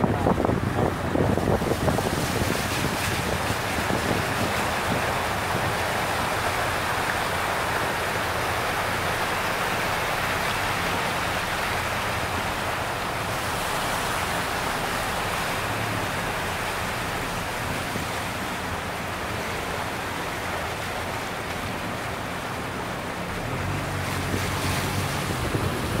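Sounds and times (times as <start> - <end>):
flood water rushing: 0.0 - 26.0.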